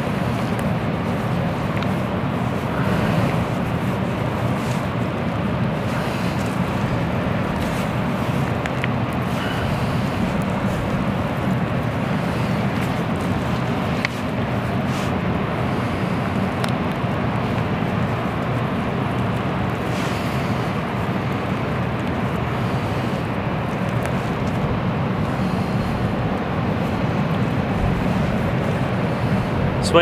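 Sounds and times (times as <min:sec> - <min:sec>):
rushing outdoor background noise: 0:00.0 - 0:30.0.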